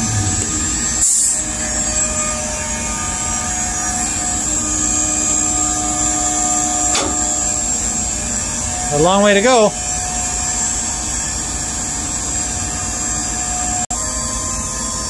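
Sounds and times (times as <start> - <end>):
boat machinery droning: 0.0 - 15.0.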